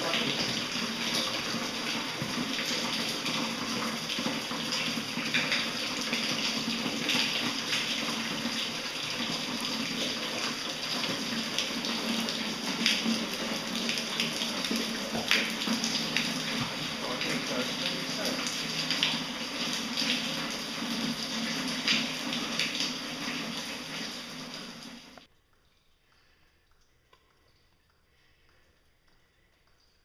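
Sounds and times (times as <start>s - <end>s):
flowing water rushing: 0.0s - 25.3s
water drips and splashes: 0.0s - 30.0s.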